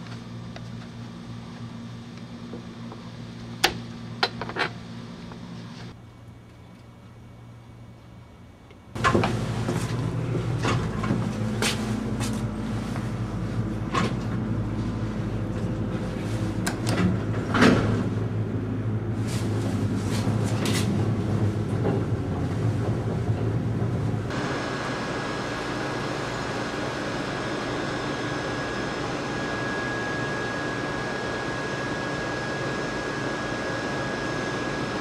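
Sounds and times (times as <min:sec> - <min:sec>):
elevator low hum: 0:00.0 - 0:35.0.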